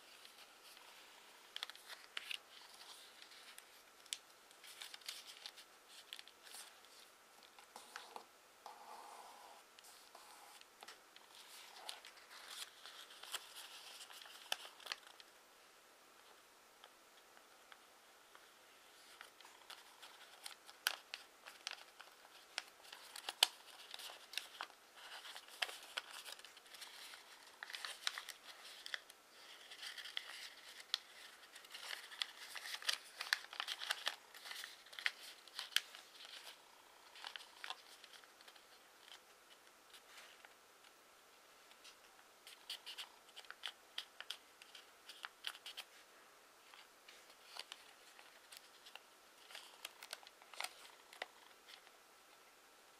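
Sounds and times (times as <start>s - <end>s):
paper rustling and crinkling: 0.0s - 8.2s, 9.8s - 15.3s, 18.3s - 40.6s, 41.7s - 46.0s, 46.6s - 51.9s.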